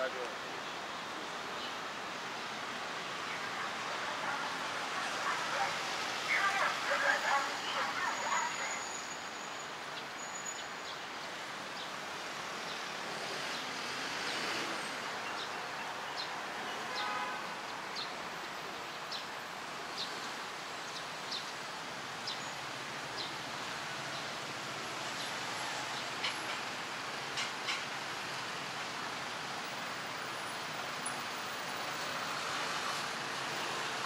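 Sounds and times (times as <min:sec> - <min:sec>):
city traffic noise: 0:00.0 - 0:34.0.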